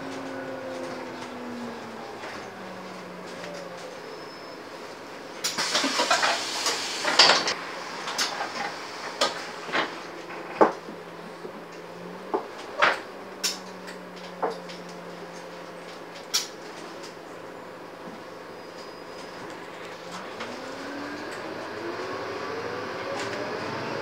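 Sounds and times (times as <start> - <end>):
bus engine hum: 0.0 - 24.0.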